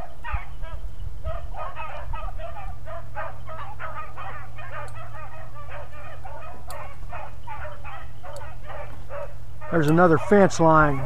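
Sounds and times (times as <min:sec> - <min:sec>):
pack of dogs baying: 0:00.0 - 0:11.0.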